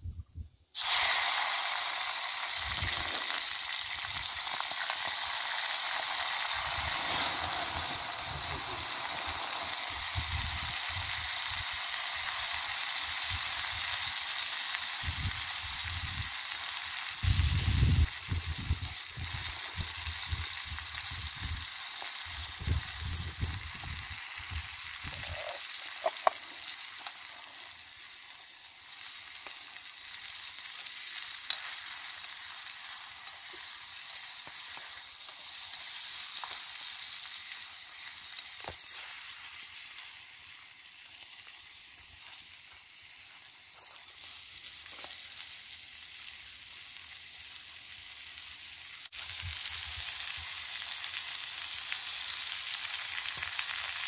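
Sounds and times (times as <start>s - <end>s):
food sizzling in hot oil: 0.7s - 54.0s.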